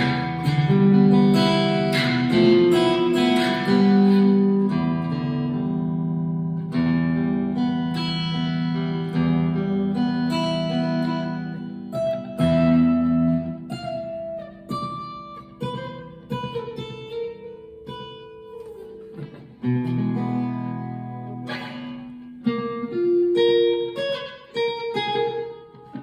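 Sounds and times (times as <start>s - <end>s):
acoustic guitar strummed chords: 0.0s - 26.0s.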